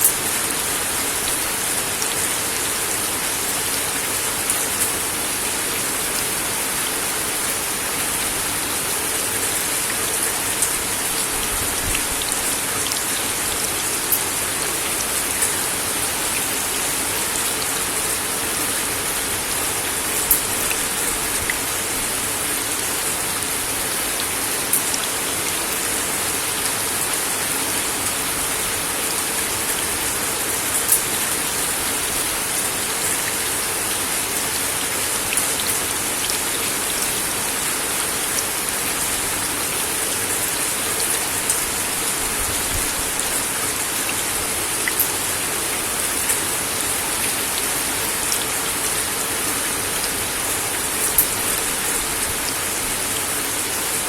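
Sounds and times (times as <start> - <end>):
rain on a wooden deck: 0.0 - 54.0.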